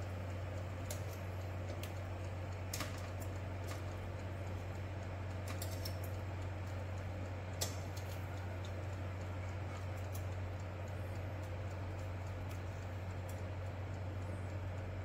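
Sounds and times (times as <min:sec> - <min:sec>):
steady low hum: 0:00.0 - 0:15.0
metal tongs clicking on oven rack: 0:00.8 - 0:04.6, 0:05.2 - 0:13.4.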